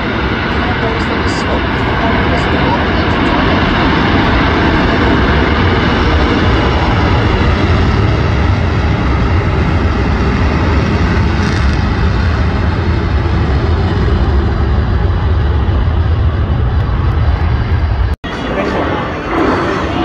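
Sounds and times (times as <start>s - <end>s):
propeller aircraft engines running: 0.0s - 20.0s.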